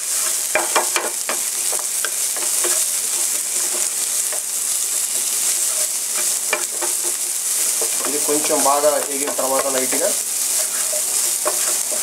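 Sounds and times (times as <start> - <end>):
vegetables sizzling in hot oil: 0.0 - 12.0
spatula scraping and tapping pan: 0.1 - 12.0.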